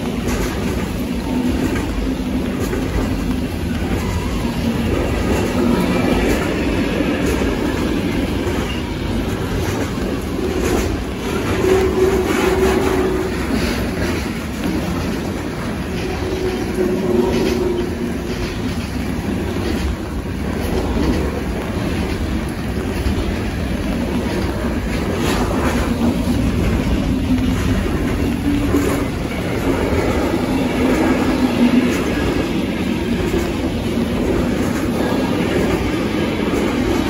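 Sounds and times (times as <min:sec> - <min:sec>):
steel wheels rumbling on rails: 0:00.0 - 0:37.0
wheels clicking over rail joints: 0:00.0 - 0:37.0.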